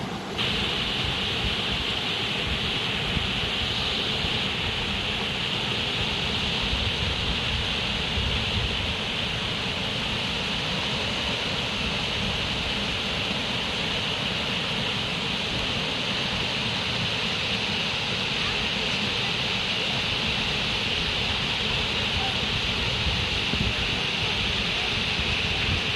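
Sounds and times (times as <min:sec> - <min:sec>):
running water rushing: 0:00.0 - 0:25.9.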